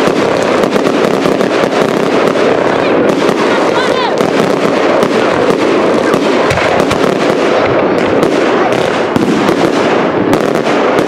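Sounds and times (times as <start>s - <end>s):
deep firework thump: 0.0s - 11.0s
fireworks crackling and banging: 0.0s - 11.0s.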